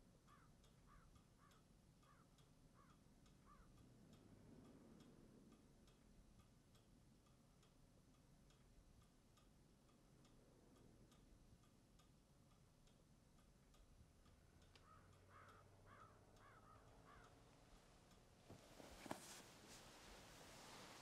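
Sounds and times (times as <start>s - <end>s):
clock ticking faintly: 0.0s - 21.0s.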